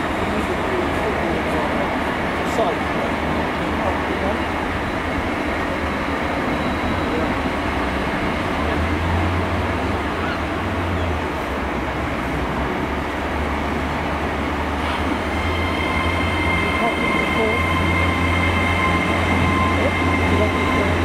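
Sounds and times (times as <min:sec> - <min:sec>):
train passing with low rumble: 0:00.0 - 0:21.0.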